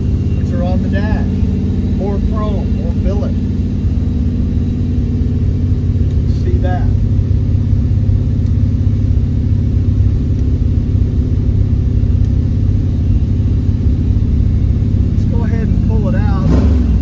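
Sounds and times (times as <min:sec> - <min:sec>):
truck engine idling low rumble: 0:00.0 - 0:17.0.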